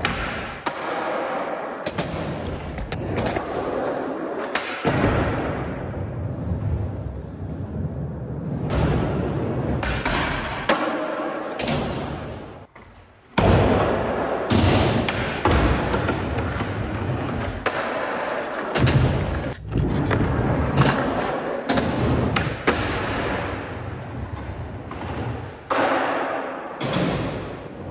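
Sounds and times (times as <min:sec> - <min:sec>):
skateboard wheels rolling: 0:00.0 - 0:25.8.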